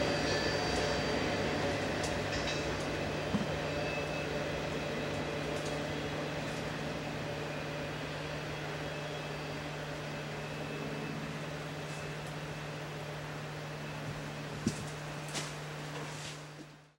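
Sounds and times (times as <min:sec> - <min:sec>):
freight train rumbling by: 0:00.0 - 0:16.0.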